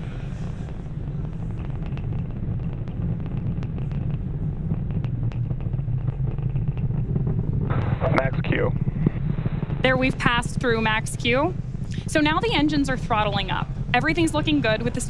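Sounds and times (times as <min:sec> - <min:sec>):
rocket engines rumbling with crackles: 0:00.0 - 0:15.0.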